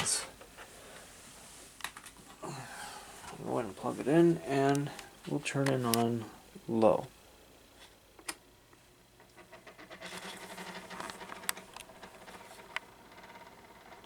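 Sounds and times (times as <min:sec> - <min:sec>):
fan motor humming: 0:00.0 - 0:14.0.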